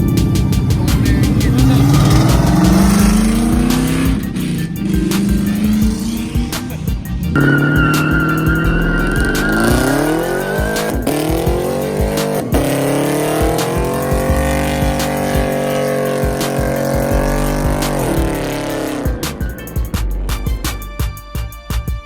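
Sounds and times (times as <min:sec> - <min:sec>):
steady high squeal: 0:00.0 - 0:20.0
car engine revving hard: 0:00.0 - 0:20.4.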